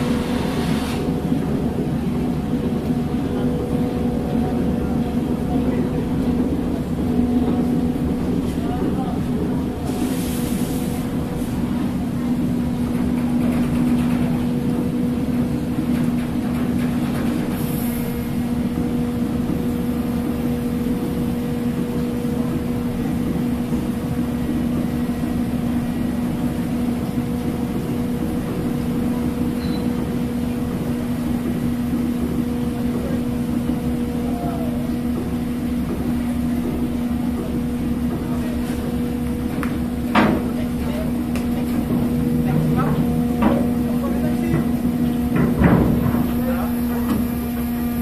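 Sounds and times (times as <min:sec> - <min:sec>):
ferry engines droning: 0:00.0 - 0:48.0.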